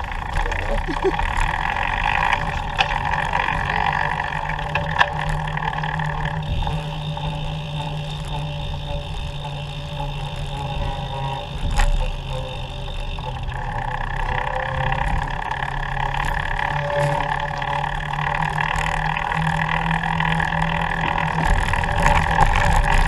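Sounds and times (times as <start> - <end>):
road and traffic noise: 0.0 - 23.0.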